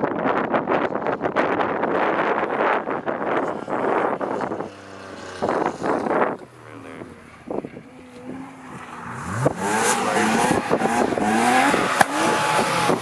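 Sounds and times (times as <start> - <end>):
rally car engine revving: 1.0 - 13.0.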